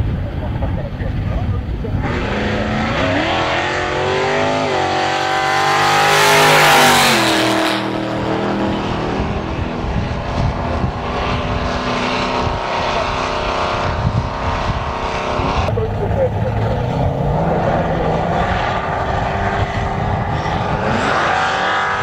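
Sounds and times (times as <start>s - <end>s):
engine droning: 0.0s - 22.0s
racing engine accelerating hard: 1.7s - 22.0s.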